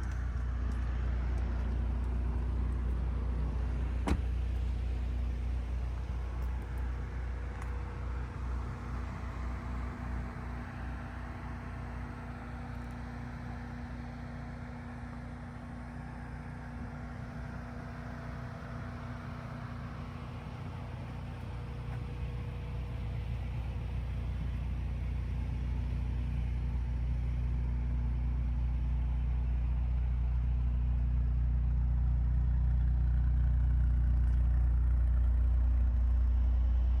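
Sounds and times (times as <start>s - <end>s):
car engine running: 0.0s - 37.0s.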